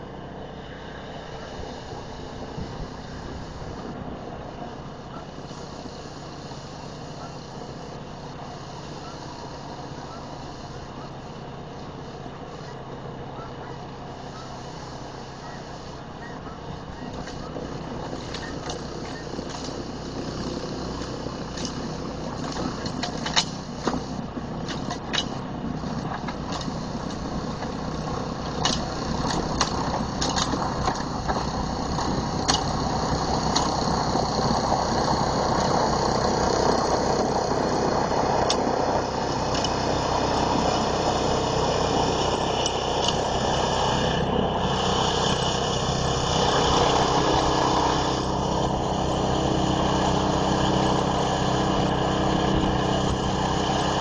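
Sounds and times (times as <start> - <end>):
snowblower running: 0.0 - 54.0.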